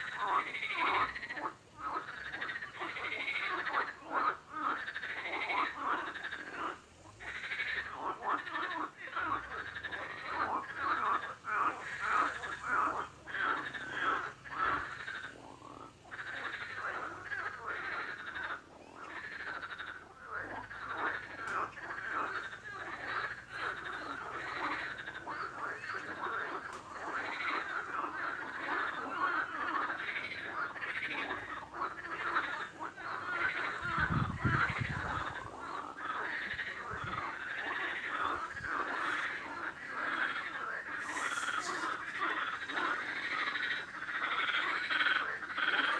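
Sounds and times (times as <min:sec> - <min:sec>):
frogs croaking: 0:00.0 - 0:45.9.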